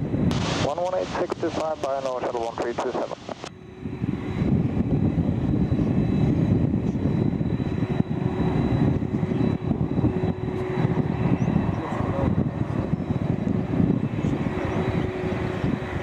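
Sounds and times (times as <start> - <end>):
airliner engines rumbling: 0.0 - 16.0
faint engine whine: 0.0 - 16.0.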